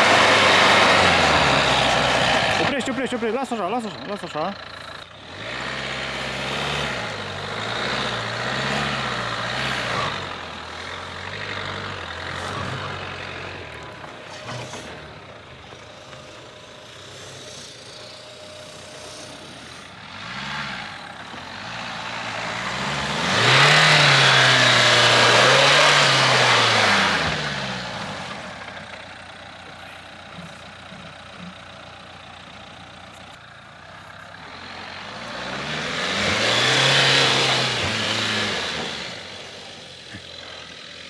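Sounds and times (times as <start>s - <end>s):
car engine revving under load: 0.0s - 29.0s, 33.8s - 41.0s.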